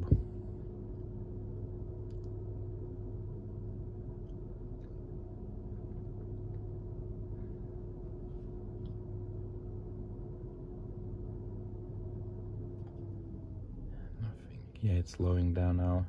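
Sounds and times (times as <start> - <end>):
cooling fan humming: 0.0 - 16.0.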